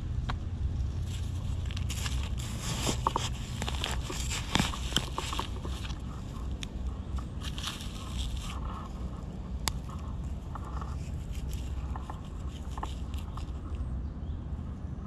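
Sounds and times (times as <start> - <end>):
low steady rumble: 0.0 - 15.0
dry leaves rustling and crackling: 0.1 - 13.9.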